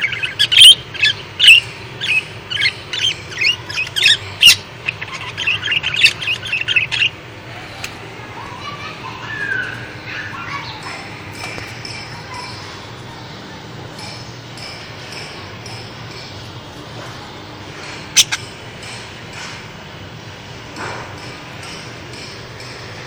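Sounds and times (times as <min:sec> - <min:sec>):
lovebirds chirping: 0:00.0 - 0:18.6.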